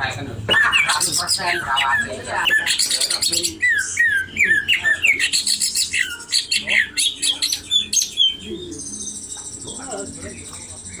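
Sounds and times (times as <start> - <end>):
bird chirping and whistling: 0.5 - 9.8.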